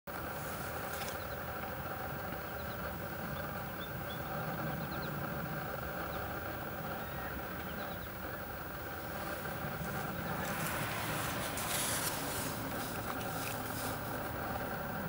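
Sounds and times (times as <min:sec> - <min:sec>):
low mechanical hum: 0:00.1 - 0:15.0.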